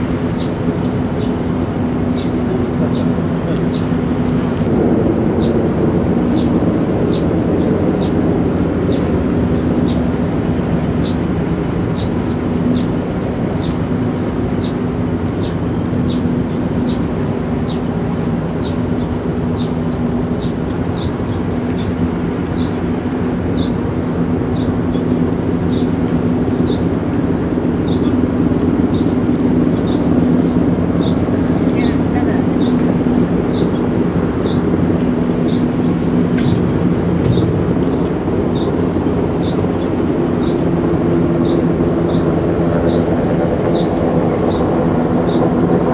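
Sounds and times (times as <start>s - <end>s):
mechanical drone: 0.0s - 45.9s.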